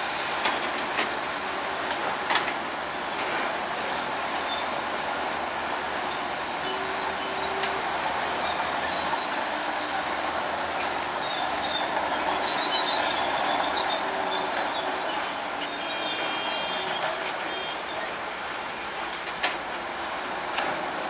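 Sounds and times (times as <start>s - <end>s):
bulldozer diesel engine: 0.0s - 21.0s
crawler tracks squealing and clanking: 0.2s - 18.3s.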